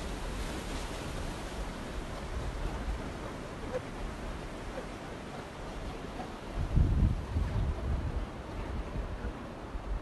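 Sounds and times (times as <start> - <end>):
ocean surf on beach: 0.0 - 10.0
wind rumble on microphone: 0.0 - 10.0.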